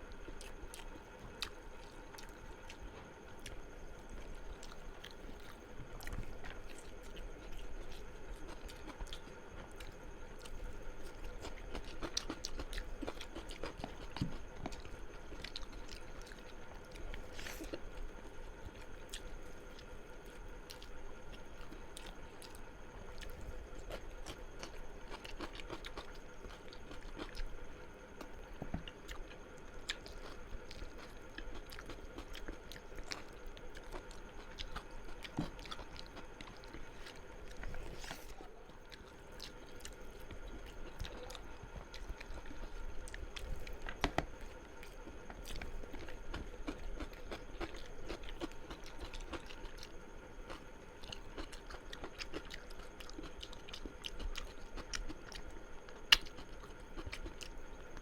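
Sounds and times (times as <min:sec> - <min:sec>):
person chewing food: 0:00.1 - 0:58.0
food crunching: 0:00.2 - 0:58.0.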